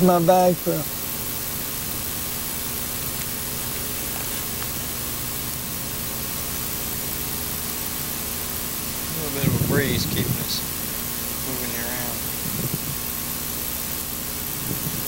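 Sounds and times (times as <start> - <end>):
faint low hum: 0.0 - 15.0
tape hiss: 0.0 - 15.0.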